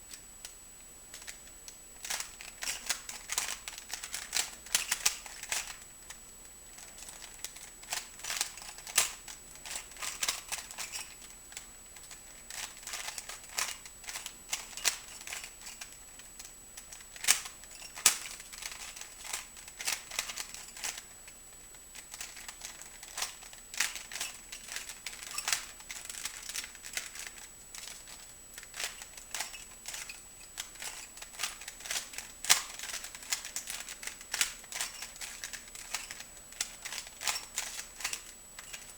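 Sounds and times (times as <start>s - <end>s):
puzzle cube clicking and rattling: 1.1s - 6.2s, 6.8s - 38.9s.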